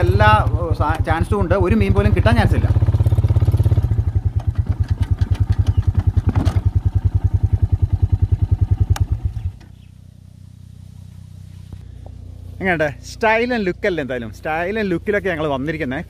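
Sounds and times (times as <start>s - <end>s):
quad bike engine idling: 0.0s - 16.0s.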